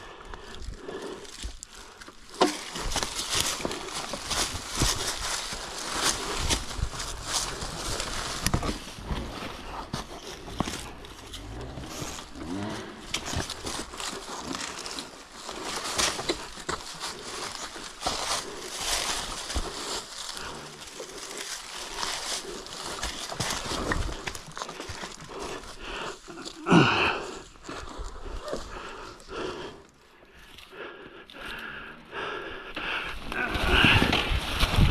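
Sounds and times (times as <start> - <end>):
footsteps crunching dry leaves: 0.4 - 29.1.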